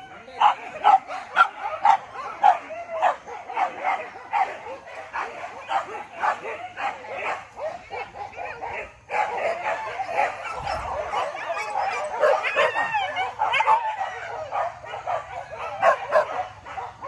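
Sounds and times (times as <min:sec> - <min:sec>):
dogs barking and yelping: 0:00.0 - 0:17.0
dogs whimpering: 0:00.0 - 0:17.0.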